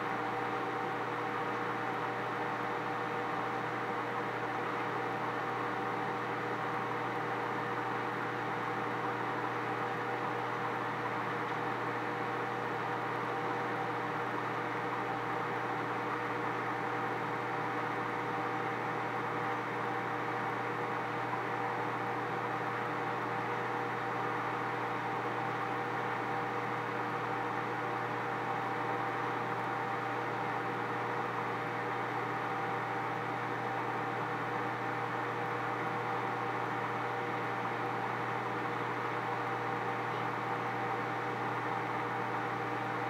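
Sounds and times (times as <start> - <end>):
microwave oven humming: 0.0 - 43.0.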